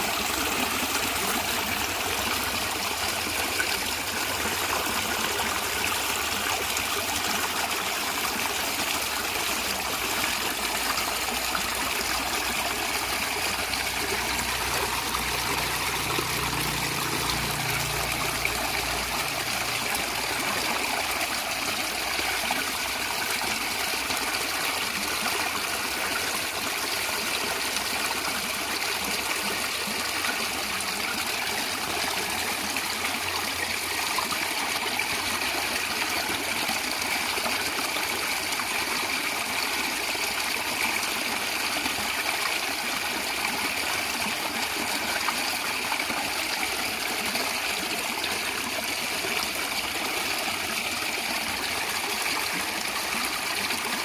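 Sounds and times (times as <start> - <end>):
stream gurgling: 0.0 - 54.0.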